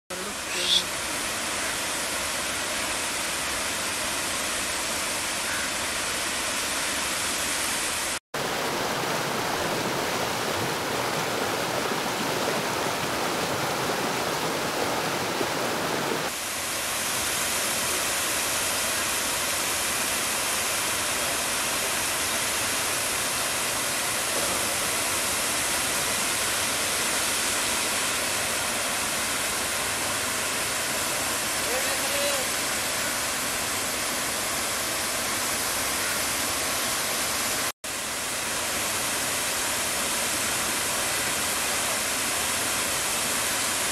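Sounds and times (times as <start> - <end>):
water rushing over waterfall: 6.2 - 43.9.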